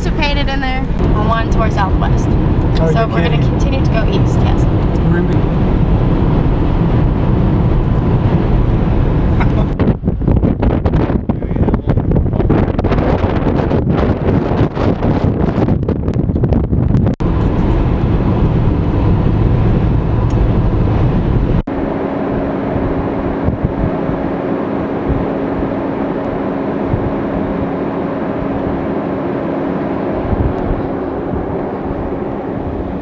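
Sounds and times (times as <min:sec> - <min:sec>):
steady low hum: 0:00.0 - 0:13.8, 0:17.0 - 0:33.0
car road and engine noise: 0:00.0 - 0:33.0.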